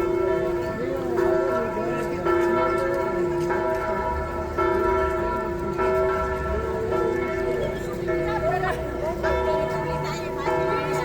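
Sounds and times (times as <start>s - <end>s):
church bells pealing: 0.0s - 11.0s.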